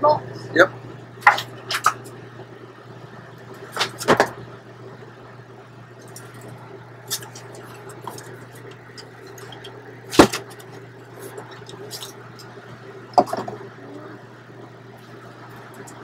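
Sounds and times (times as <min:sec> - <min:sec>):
refrigeration unit humming: 0:00.0 - 0:16.0.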